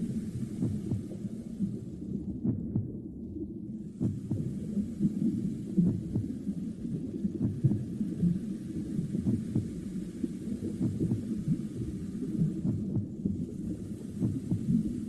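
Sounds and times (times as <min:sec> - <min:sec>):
muffled heartbeat whooshing: 0:00.0 - 0:15.0.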